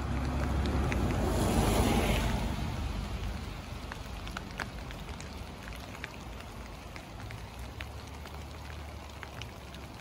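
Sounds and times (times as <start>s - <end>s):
hailstones pattering on concrete: 0.0s - 10.0s.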